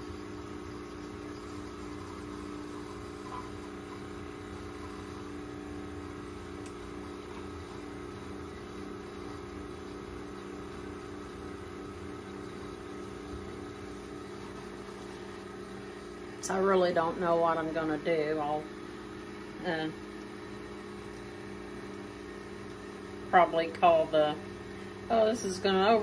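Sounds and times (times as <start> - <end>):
coffee maker pump humming: 0.0 - 26.0.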